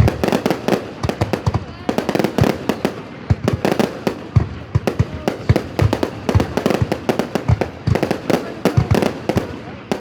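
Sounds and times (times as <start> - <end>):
deep fireworks booms: 0.0 - 10.0
fireworks bangs and cracks: 0.0 - 10.0.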